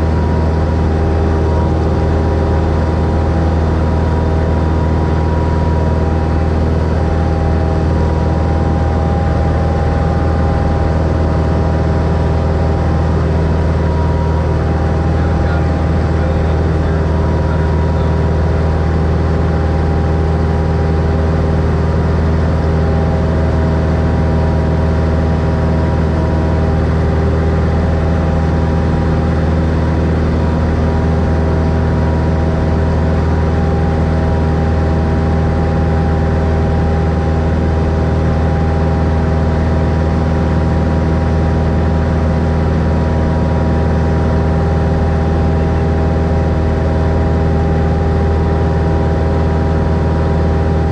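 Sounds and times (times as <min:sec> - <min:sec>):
propeller plane engine droning: 0:00.0 - 0:50.9.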